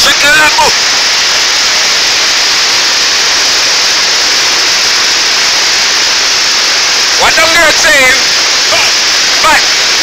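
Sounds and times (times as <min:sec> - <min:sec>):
river rushing in flood: 0:00.0 - 0:10.0.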